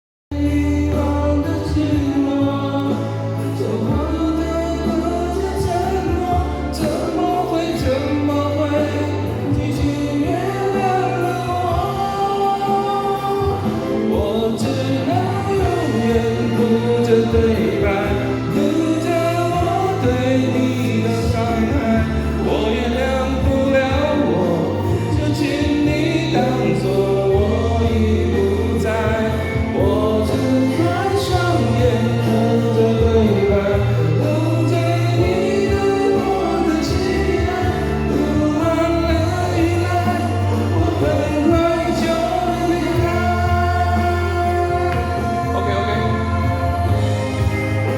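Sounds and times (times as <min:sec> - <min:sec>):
choir-like singing over bass: 0:00.3 - 0:47.9.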